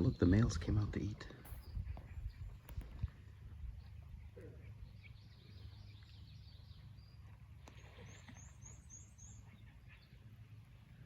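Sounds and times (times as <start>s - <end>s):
faint bird chirps: 1.4s - 11.0s.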